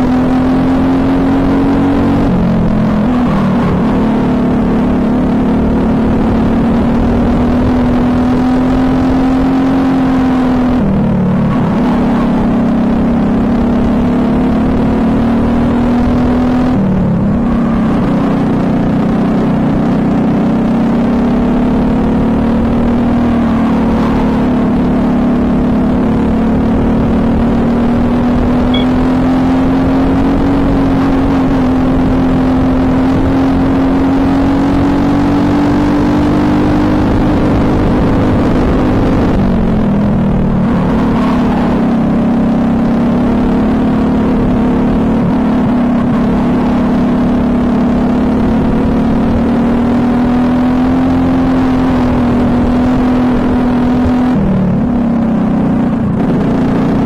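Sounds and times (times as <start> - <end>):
kart engine running fast: 0.0 - 57.0.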